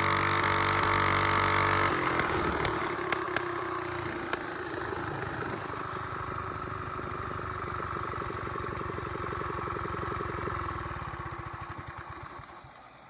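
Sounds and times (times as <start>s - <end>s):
single-cylinder engine running: 0.0s - 13.0s.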